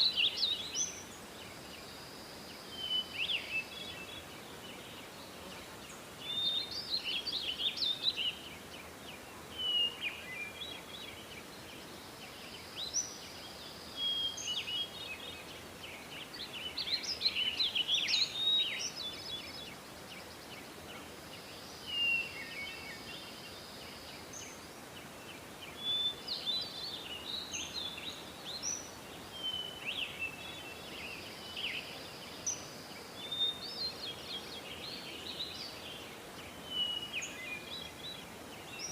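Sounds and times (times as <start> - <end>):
background hiss: 0.0 - 38.9
songbirds singing: 0.0 - 38.9.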